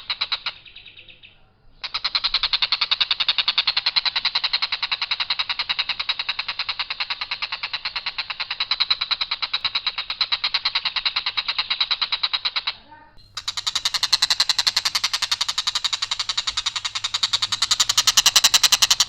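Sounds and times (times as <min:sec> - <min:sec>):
kingfisher rattling call: 0:01.8 - 0:19.0.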